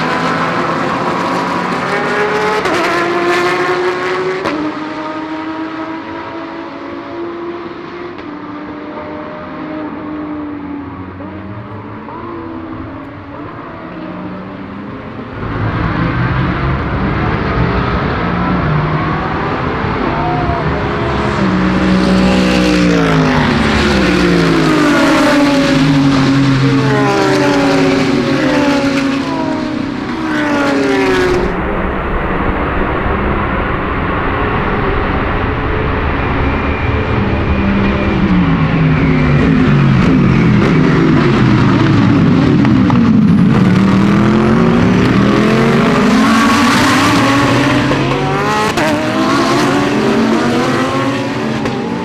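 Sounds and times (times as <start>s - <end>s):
race car engines revving: 0.0s - 52.0s.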